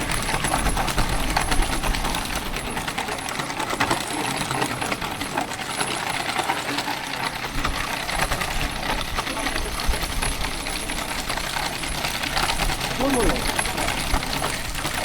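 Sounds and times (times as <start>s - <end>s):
metal cart wheels rattling: 0.0s - 15.0s.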